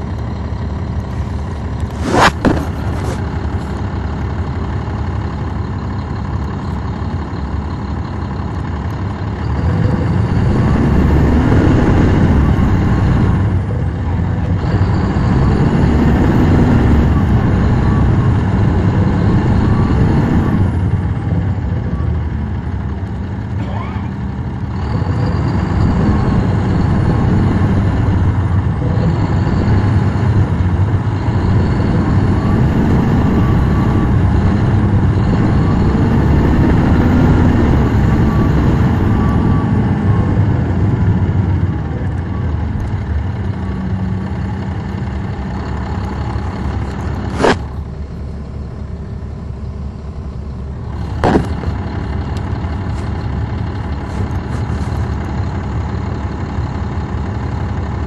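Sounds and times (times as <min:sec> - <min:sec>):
bus diesel engine pulling: 0:00.0 - 0:58.0
high engine whine: 0:00.0 - 0:58.0.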